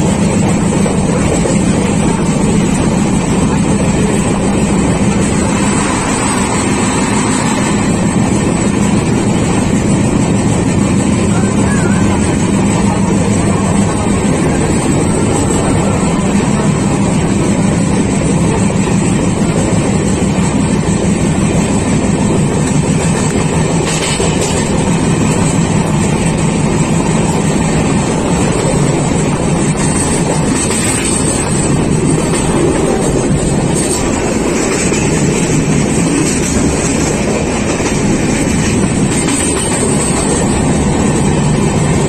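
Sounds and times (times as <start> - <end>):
moving train rumble: 0.0 - 42.0.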